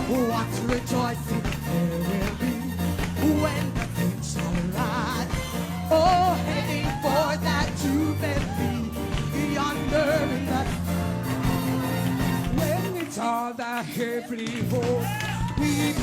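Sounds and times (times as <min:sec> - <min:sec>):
instrumental backing: 0:00.0 - 0:16.0
person singing with vibrato: 0:00.0 - 0:16.0.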